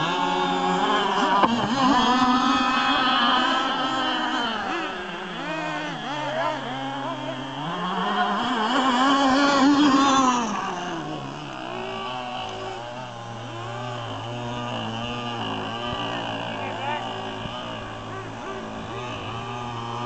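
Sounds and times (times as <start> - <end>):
speedboat motor running: 0.0 - 20.0.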